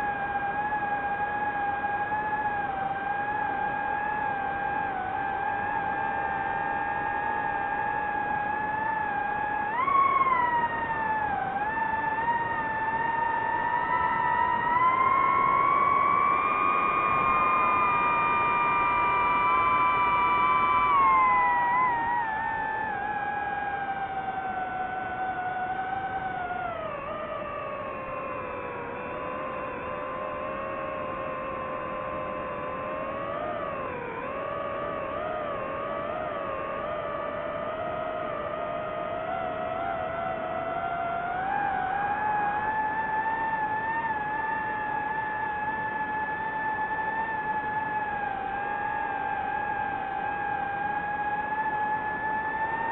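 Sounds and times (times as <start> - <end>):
drone motors whining: 0.0 - 52.9.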